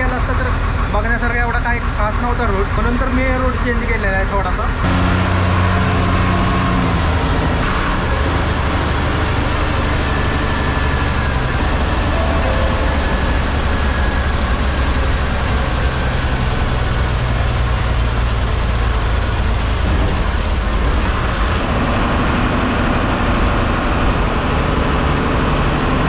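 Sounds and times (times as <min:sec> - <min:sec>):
bus engine running: 0:00.0 - 0:26.0
road noise: 0:00.0 - 0:26.0.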